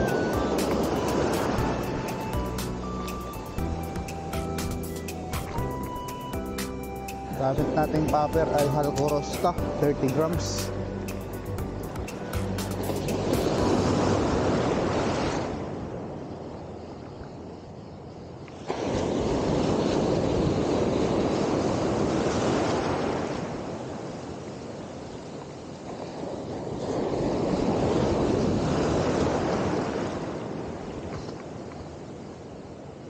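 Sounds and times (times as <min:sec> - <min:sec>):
surf washing onto shore: 0:00.0 - 0:06.2, 0:07.3 - 0:16.2, 0:18.6 - 0:31.8.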